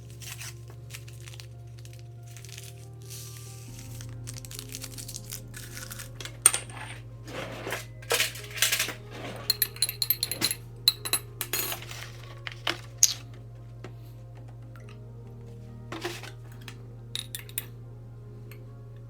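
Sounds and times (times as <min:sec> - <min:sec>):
small hard objects clinking: 0:00.0 - 0:15.0, 0:15.9 - 0:17.8
low steady hum: 0:00.0 - 0:19.0.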